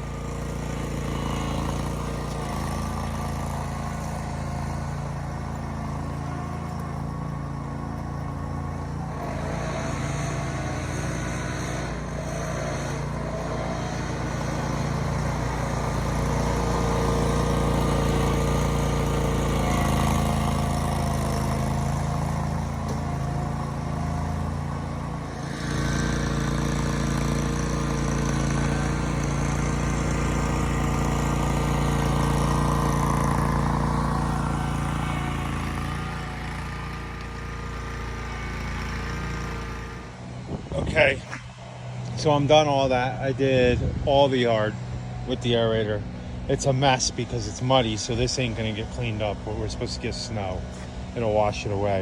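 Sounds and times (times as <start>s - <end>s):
small engine running: 0.0s - 52.0s.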